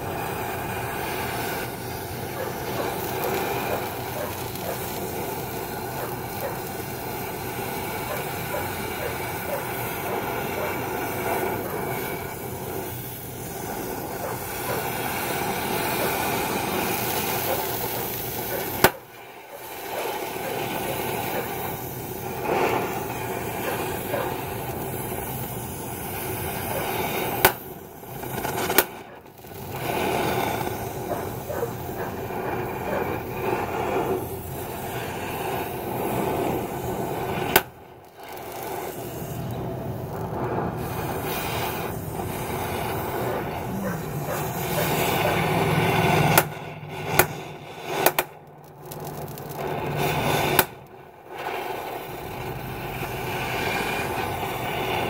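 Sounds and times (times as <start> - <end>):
cutting torch hissing: 0.0 - 55.0.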